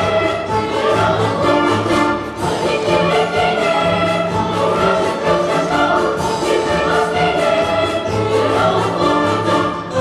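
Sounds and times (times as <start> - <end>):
children's choir singing: 0.0 - 10.0
orchestra playing: 0.0 - 10.0.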